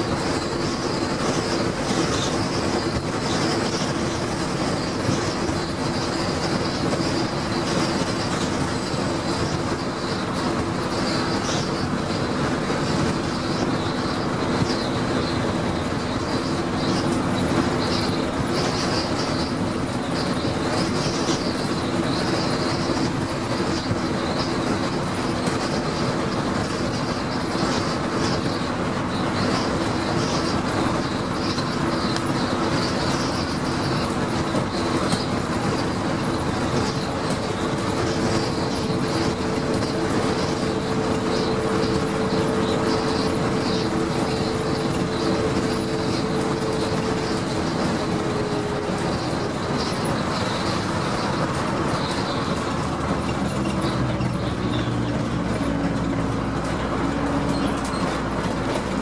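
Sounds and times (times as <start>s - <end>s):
bus engine drone: 0.0s - 59.0s
high steady whine: 0.0s - 59.0s
road noise: 0.0s - 59.0s.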